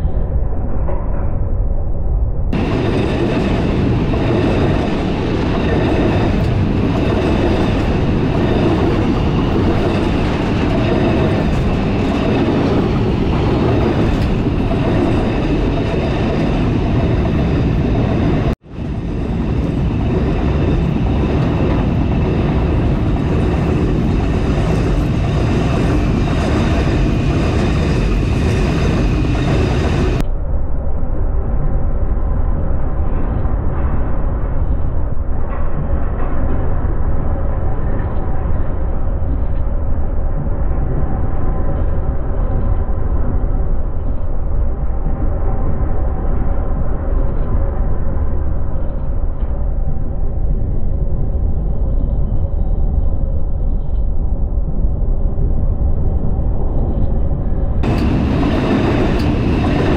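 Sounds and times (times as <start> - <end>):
freight train passing at speed: 2.3 - 59.9.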